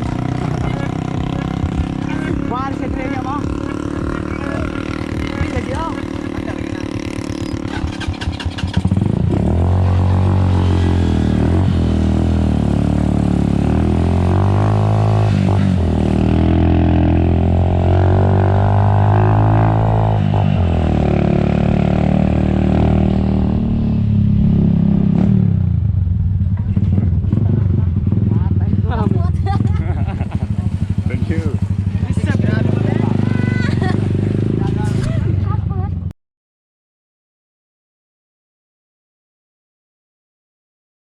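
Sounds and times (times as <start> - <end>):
vehicle engine revving: 0.0 - 35.9.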